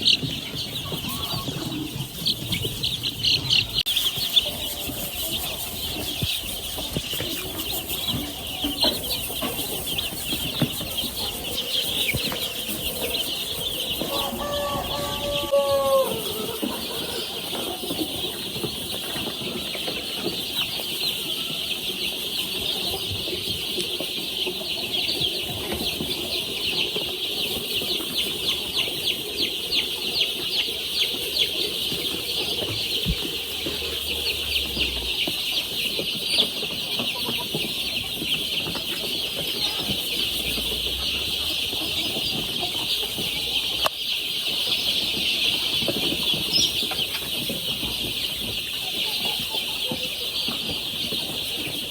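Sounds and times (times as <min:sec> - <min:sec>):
chicks peeping: 0:00.0 - 0:51.9.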